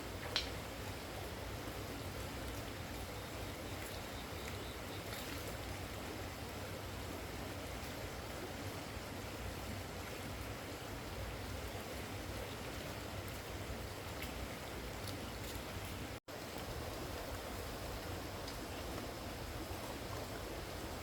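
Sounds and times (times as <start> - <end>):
running water: 0.0 - 21.0.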